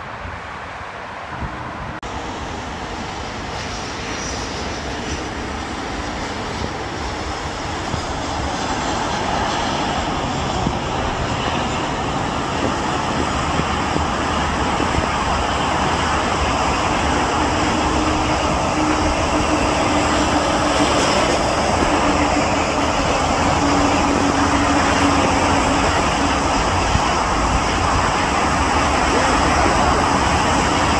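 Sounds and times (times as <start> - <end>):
jet airliner engines rumbling: 0.0 - 30.9.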